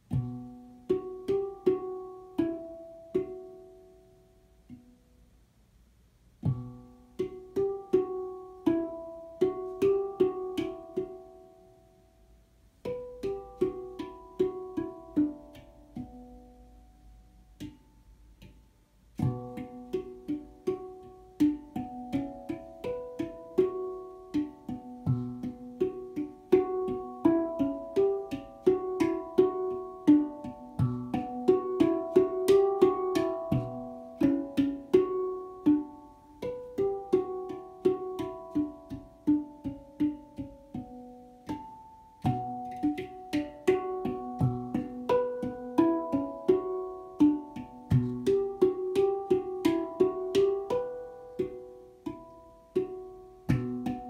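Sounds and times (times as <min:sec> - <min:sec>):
handpan notes ringing: 0:00.0 - 0:05.0, 0:06.4 - 0:12.2, 0:12.8 - 0:54.0.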